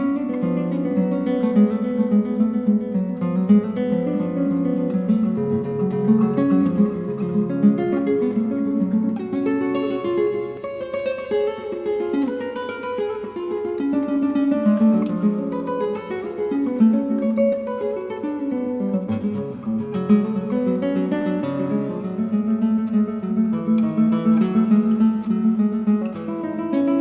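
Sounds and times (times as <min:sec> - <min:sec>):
acoustic guitar plucking and strumming: 0:00.0 - 0:27.0.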